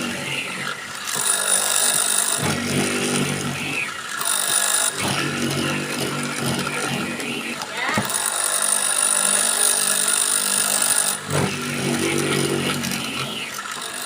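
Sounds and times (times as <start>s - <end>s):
electric motor humming: 0.0s - 14.0s
harsh cutting noise: 0.0s - 14.0s.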